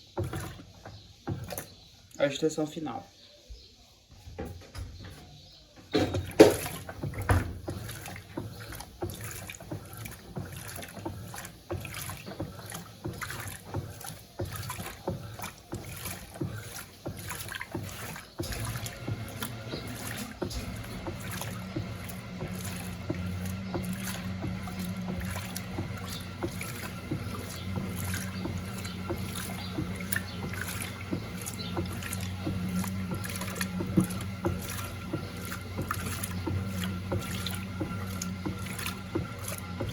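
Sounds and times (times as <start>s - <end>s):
water sloshing and knocking: 0.0s - 2.2s, 4.4s - 39.9s
washing machine motor hum: 0.0s - 3.0s, 4.3s - 39.9s.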